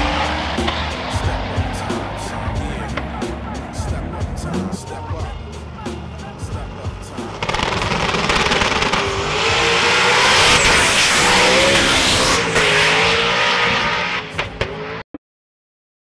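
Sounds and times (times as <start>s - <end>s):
race car engine at high revs: 0.0s - 15.0s
tires squealing: 0.0s - 15.0s.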